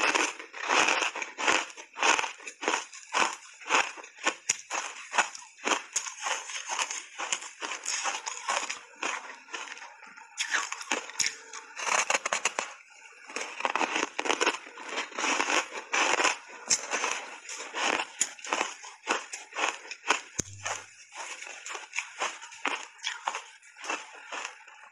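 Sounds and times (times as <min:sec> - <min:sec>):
ice crunching between teeth: 0:00.0 - 0:24.9.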